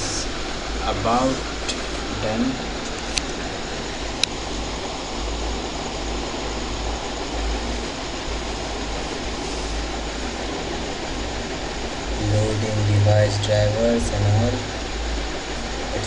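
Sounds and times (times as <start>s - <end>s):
even hiss: 0.0s - 16.0s
low rumble: 0.0s - 16.0s.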